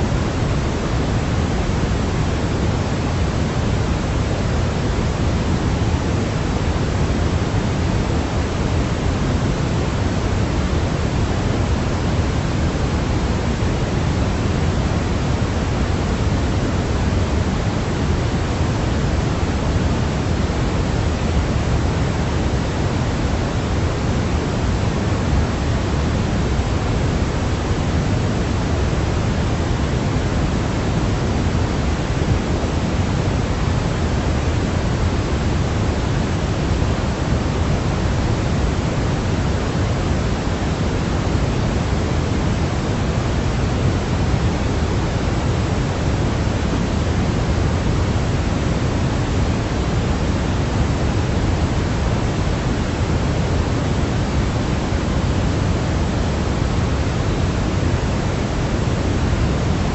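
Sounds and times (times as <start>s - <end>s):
steady low noise: 0.0s - 59.9s.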